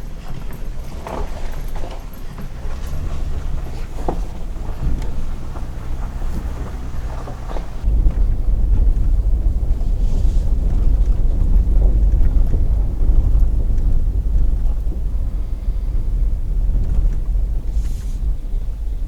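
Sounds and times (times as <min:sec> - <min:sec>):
truck driving slowly: 0:00.0 - 0:19.0.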